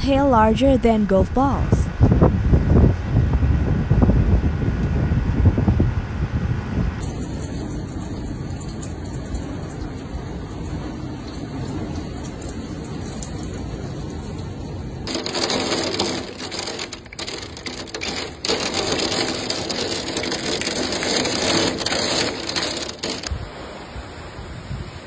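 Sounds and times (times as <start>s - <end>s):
torrential rain in wind: 0.0s - 25.0s.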